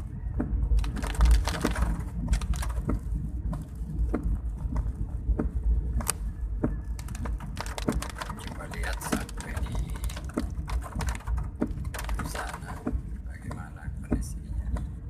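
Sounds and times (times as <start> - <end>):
low driving rumble: 0.0 - 15.0
raindrops tapping on vehicle: 0.4 - 15.0.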